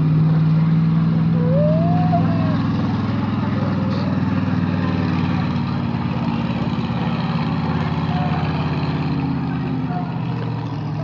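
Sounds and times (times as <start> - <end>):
truck engine throbbing: 0.0 - 11.0.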